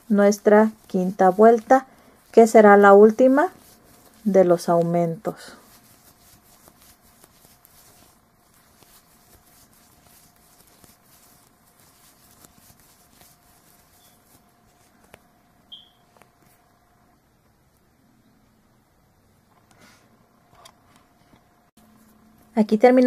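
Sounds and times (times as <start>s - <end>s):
crochet hook and yarn rustling: 0.0s - 16.8s, 21.2s - 23.0s
faint steady hum: 0.0s - 23.0s.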